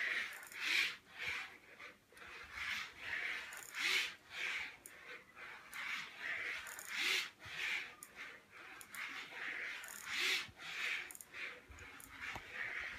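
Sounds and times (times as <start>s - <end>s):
pen scratching across paper: 0.0s - 12.9s.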